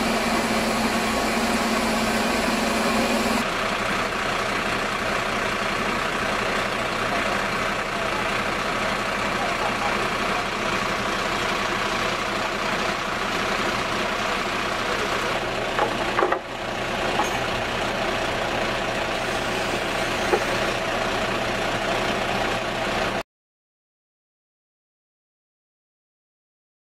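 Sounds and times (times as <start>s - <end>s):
fire engine idling: 0.0s - 23.2s.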